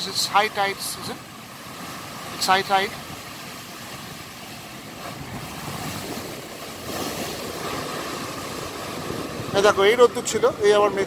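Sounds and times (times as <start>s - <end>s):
waves washing over sea wall: 0.0s - 11.0s.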